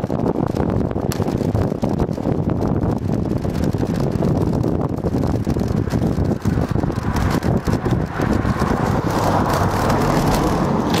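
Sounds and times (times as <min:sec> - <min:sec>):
bicycle rattles: 0:00.0 - 0:11.0
wind buffeting microphone: 0:00.0 - 0:11.0.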